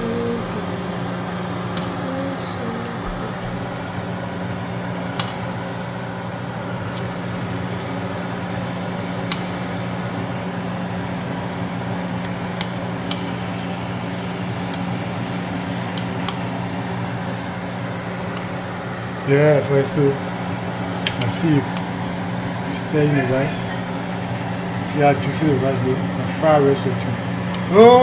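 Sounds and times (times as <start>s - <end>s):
appliance motor hum: 0.0s - 28.0s.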